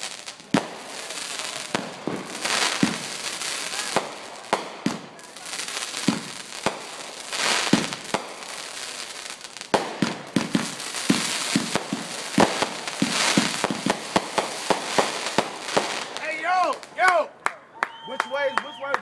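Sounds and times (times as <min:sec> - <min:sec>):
sharp firework bangs: 0:00.0 - 0:16.9
fireworks hissing and crackling: 0:00.0 - 0:17.1
fireworks popping: 0:00.0 - 0:17.2.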